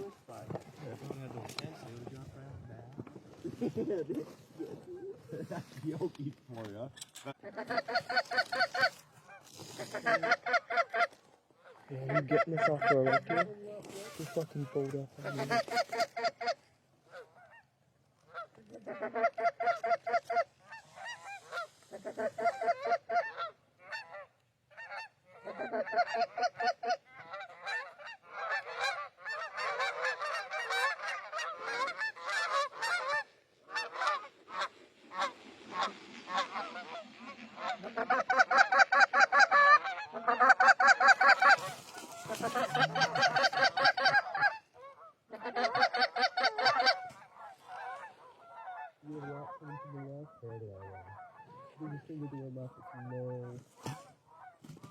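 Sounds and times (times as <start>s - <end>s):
geese honking and clucking: 0.0s - 2.2s, 7.3s - 54.9s.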